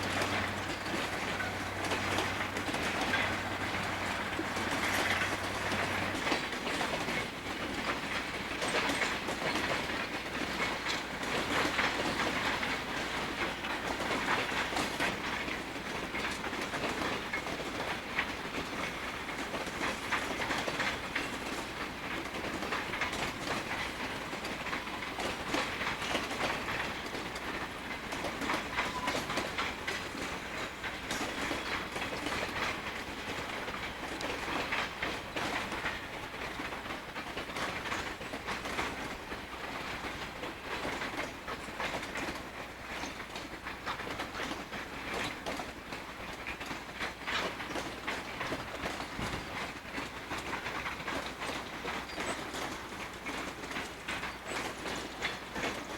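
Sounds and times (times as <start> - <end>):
freight train cars rumbling: 0.0 - 55.9
wheels clicking over rail joints: 0.0 - 55.9.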